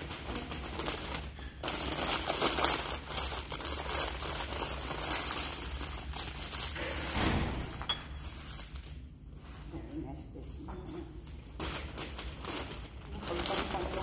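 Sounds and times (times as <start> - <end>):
wrapping crinkling and rustling: 0.0 - 14.0.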